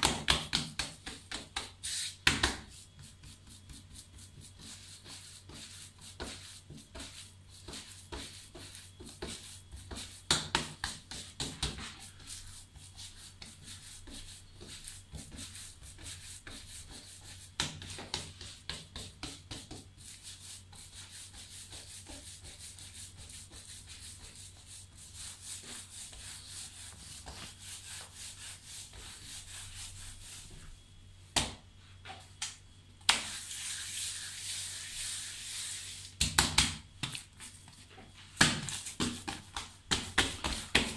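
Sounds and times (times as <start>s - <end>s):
hands rubbing dough on marble: 0.0s - 30.8s, 33.1s - 36.2s, 37.0s - 40.9s.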